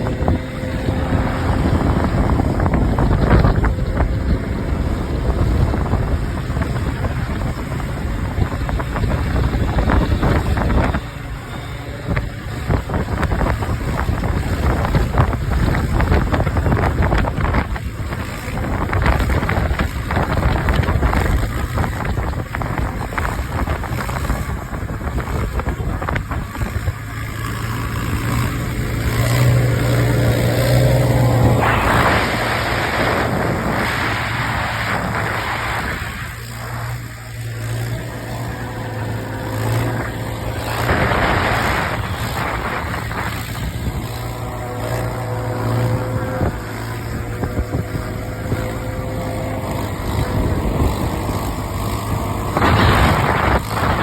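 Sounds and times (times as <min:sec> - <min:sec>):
atv engine running: 0:00.0 - 0:54.0
wind buffeting microphone: 0:00.0 - 0:54.0.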